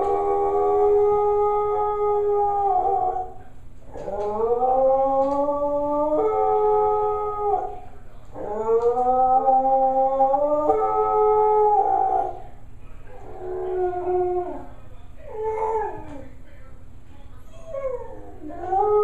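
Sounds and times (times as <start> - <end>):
dog howling: 0.0 - 12.4, 13.1 - 16.2, 17.5 - 19.0.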